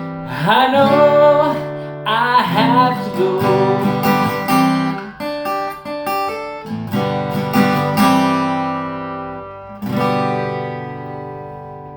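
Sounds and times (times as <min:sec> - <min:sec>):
acoustic guitar playing: 0:00.0 - 0:11.9.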